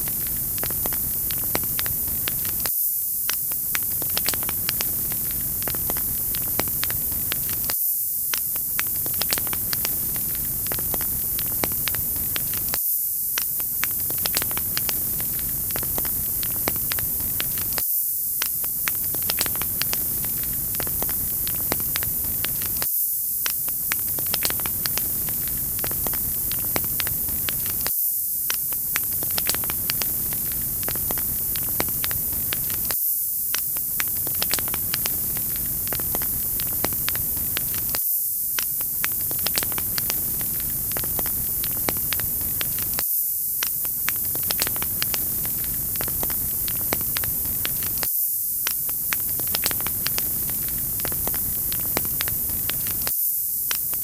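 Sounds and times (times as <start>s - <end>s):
wood fire crackling: 0.0s - 12.8s, 13.4s - 17.8s, 18.4s - 22.8s, 23.4s - 27.9s, 28.5s - 38.0s, 38.6s - 43.0s, 43.6s - 53.1s.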